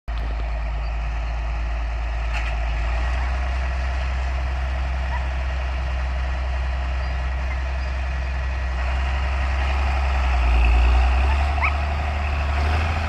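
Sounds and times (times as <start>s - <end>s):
tractor diesel engine running: 0.1s - 13.0s.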